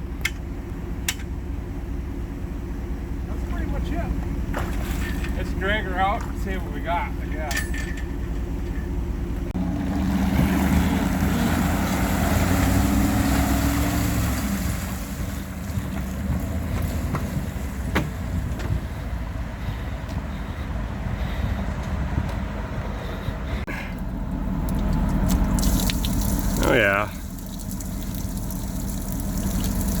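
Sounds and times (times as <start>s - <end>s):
vehicle engine under load: 0.0s - 30.0s.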